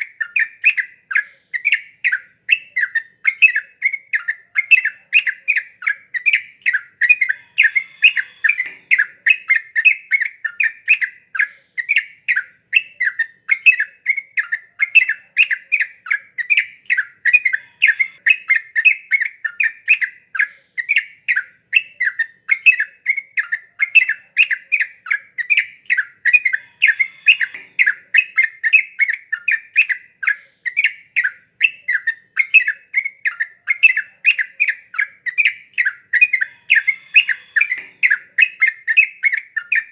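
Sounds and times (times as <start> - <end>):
bird singing fast notes: 0.0 - 39.9.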